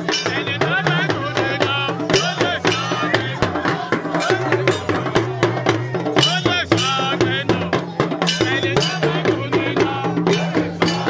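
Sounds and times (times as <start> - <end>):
drum music with bell beat: 0.0 - 11.0
talking drum: 0.0 - 11.0
voices singing: 0.0 - 11.0.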